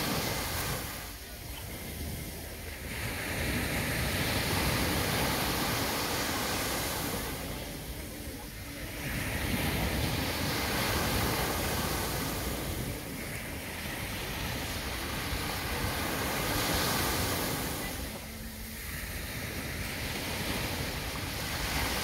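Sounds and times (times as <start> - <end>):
waves breaking on sandy beach: 0.0 - 22.0.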